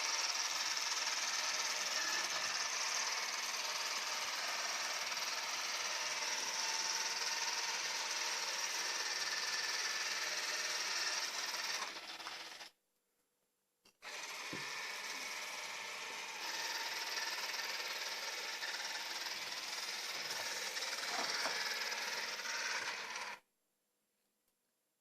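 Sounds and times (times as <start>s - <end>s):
robot vacuum whirring: 0.0s - 12.7s, 14.0s - 23.4s.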